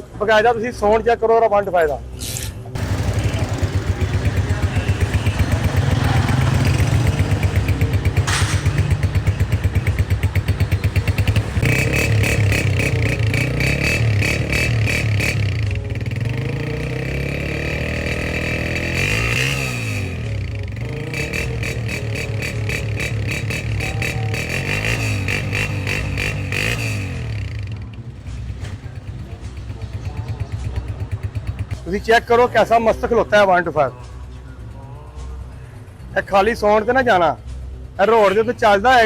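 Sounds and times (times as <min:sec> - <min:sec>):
motorcycle engine idling: 0:02.8 - 0:38.0.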